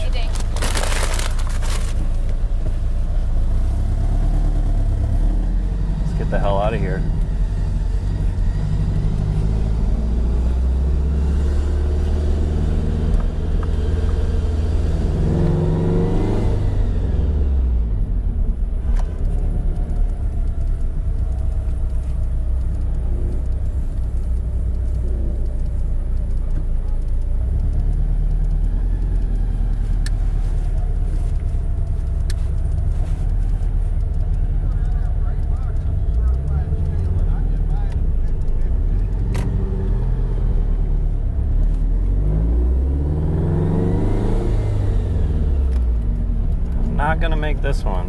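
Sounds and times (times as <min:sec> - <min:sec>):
sports car engine accelerating: 0:00.0 - 0:48.0.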